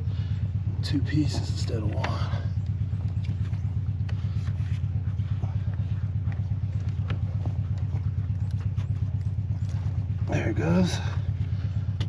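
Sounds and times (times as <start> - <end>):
low pulsing engine drone: 0.0 - 12.0.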